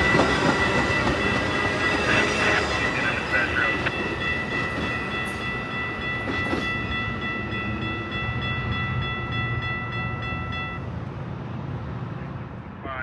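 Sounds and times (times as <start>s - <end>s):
steady high tone: 0.0s - 11.0s
train passing rumble: 0.0s - 13.0s.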